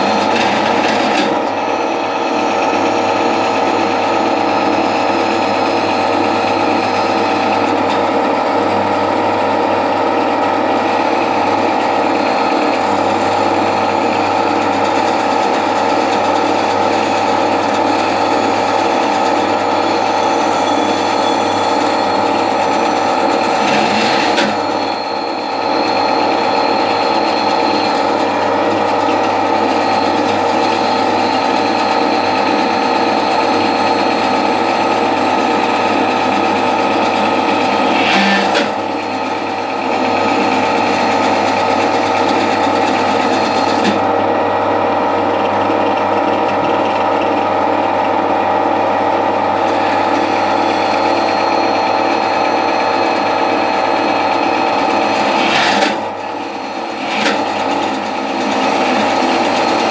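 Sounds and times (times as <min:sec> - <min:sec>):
bandsaw cutting timber: 0:00.0 - 0:08.2, 0:10.9 - 0:24.8, 0:26.3 - 0:44.1, 0:49.6 - 0:59.9.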